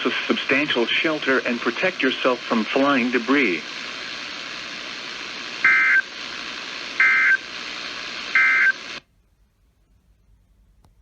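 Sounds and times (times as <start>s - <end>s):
radio static hiss: 0.0s - 9.1s.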